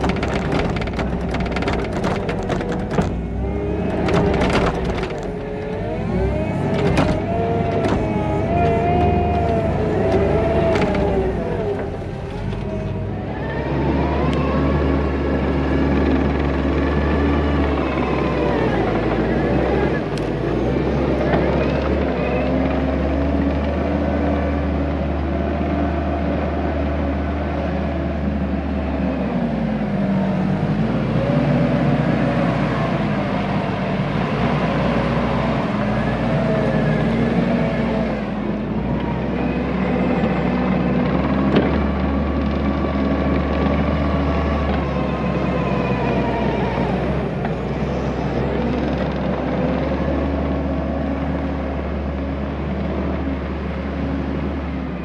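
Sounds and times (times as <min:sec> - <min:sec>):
skid steer engine under load: 0:00.0 - 0:55.0.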